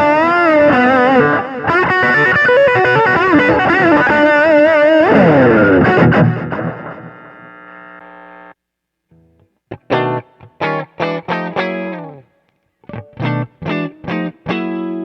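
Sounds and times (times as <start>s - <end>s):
distorted electric guitar: 0.0s - 12.2s, 12.9s - 15.0s.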